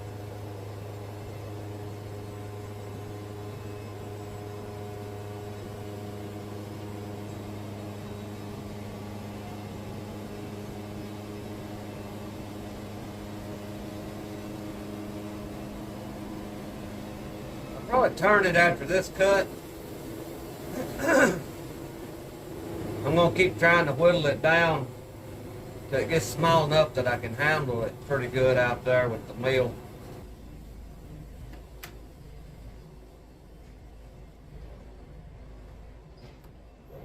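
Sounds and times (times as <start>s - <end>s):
band sawmill hum: 0.0s - 37.0s.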